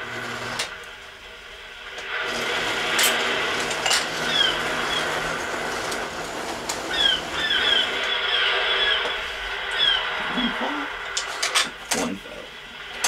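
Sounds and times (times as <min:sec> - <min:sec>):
model train rolling rumble: 0:00.0 - 0:13.0.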